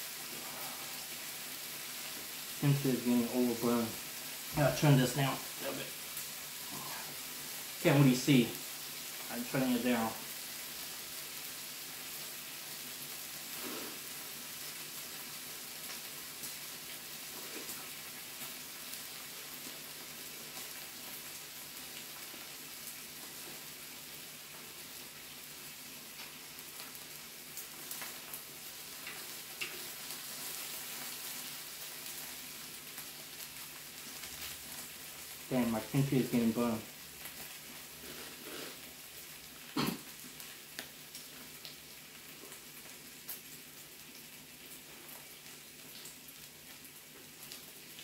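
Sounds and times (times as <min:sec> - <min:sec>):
meat sizzling on grill: 0:00.0 - 0:48.0.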